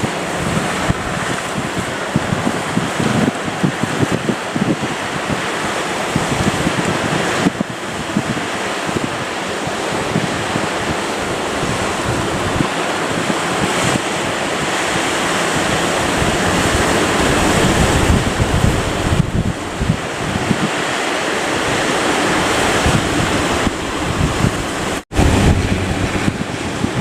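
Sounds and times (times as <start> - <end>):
sea waves rushing: 0.0 - 27.0
wind buffeting microphone: 0.0 - 27.0.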